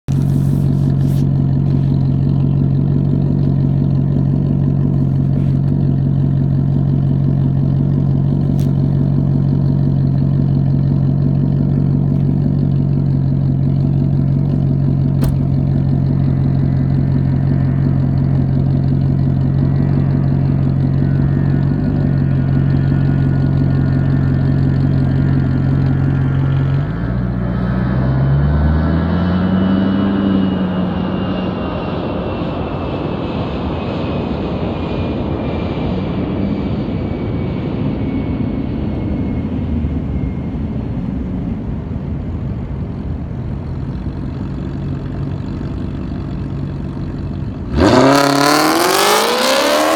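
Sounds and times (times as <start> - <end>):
car engine running and revving: 0.0 - 49.9.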